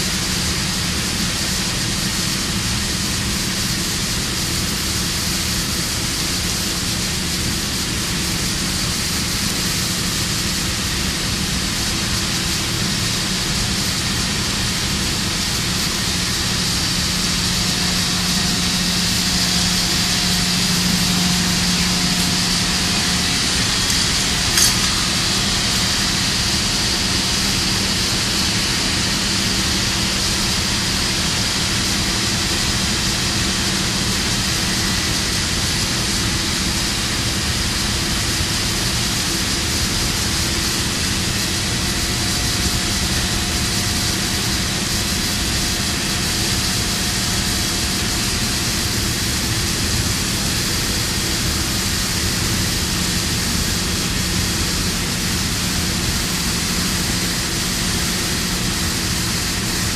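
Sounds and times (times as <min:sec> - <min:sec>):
mechanical drone with hiss: 0:00.0 - 0:59.9.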